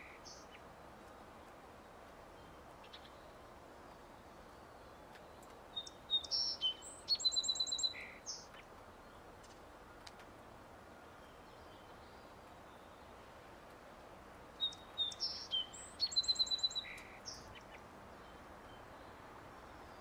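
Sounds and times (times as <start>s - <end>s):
songbird chirping and trilling: 0.0s - 1.5s, 2.3s - 9.6s, 11.0s - 13.4s, 14.5s - 20.0s
steady background hiss: 0.0s - 20.0s.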